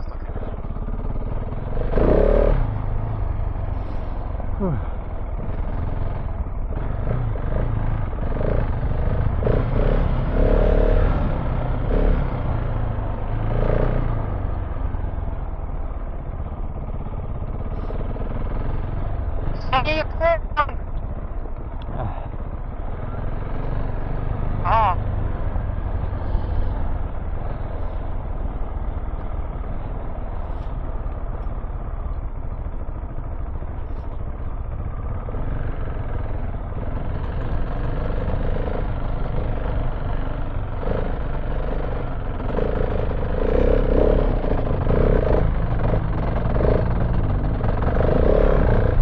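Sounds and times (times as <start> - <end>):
motorcycle engine revving: 0.0 - 49.0
road and wind noise: 0.0 - 49.0.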